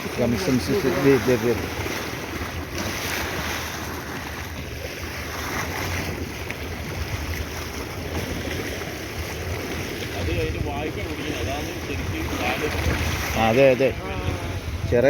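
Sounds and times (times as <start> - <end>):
sea waves: 0.0 - 15.0
wind on microphone: 0.0 - 15.0.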